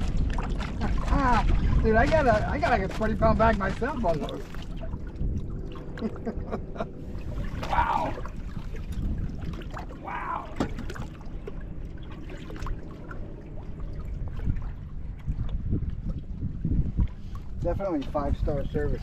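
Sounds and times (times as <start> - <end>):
steady low rumble: 0.0 - 19.0
water splashing: 0.0 - 19.0.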